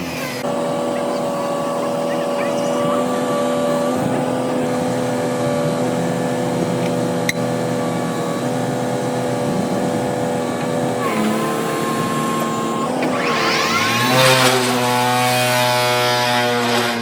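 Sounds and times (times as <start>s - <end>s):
vibratory pile driver humming: 0.0s - 17.0s.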